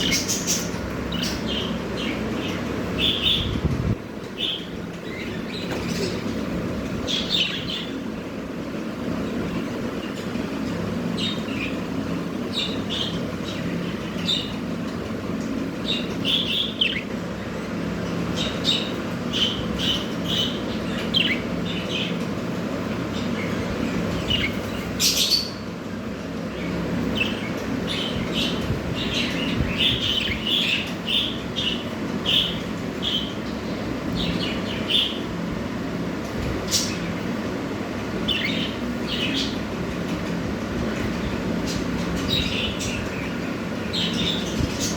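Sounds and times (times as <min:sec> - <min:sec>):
budgerigars chirping: 0:00.0 - 0:03.6, 0:04.4 - 0:08.0, 0:11.1 - 0:22.4, 0:23.0 - 0:25.7, 0:26.5 - 0:35.3, 0:36.6 - 0:37.3, 0:38.1 - 0:39.7, 0:40.9 - 0:44.9
steady low hum: 0:00.0 - 0:44.9.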